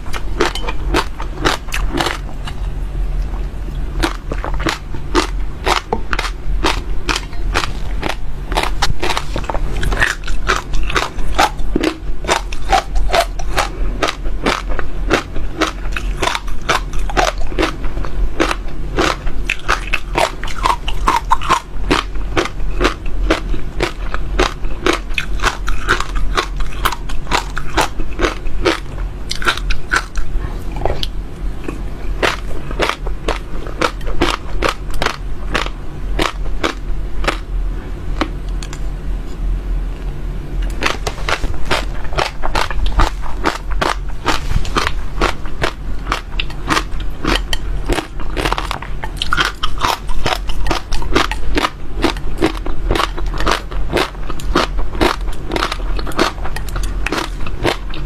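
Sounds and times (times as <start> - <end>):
crunching and chewing seeds: 0.0 - 58.0.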